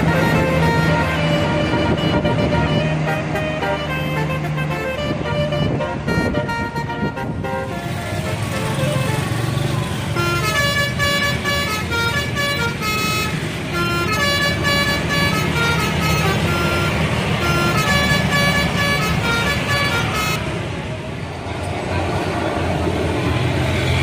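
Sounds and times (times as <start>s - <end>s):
multi-tone air horn melody: 0.0s - 20.7s
bus engine running: 0.0s - 24.0s.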